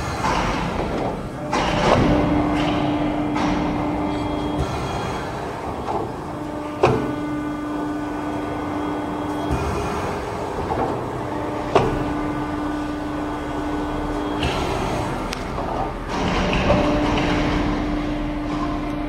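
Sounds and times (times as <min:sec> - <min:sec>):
hydraulic machine hum: 0:00.0 - 0:19.0.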